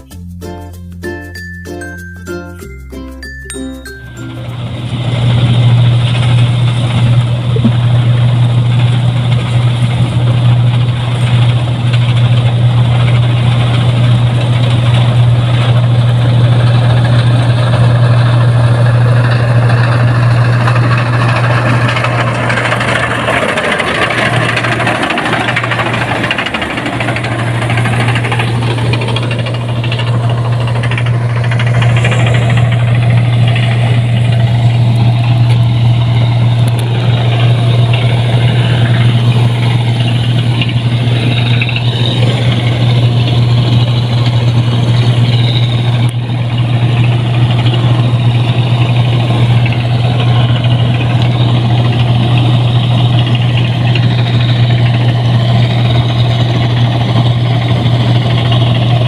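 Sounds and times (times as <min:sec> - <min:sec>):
combine harvester engine hum: 0:00.0 - 0:59.0
machinery noise: 0:00.0 - 0:59.0.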